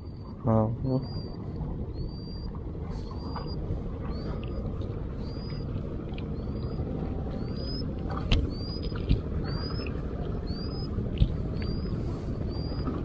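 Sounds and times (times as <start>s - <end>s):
water at shoreline: 0.0s - 13.0s
wind: 0.0s - 13.0s.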